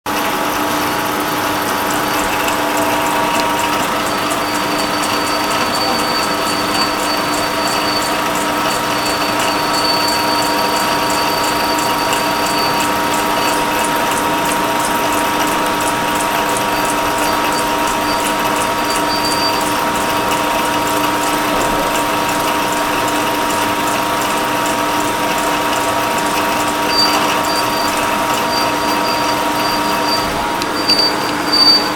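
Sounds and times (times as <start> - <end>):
milling machine whirring: 0.1 - 31.9
high whine: 1.0 - 23.2, 26.2 - 31.9.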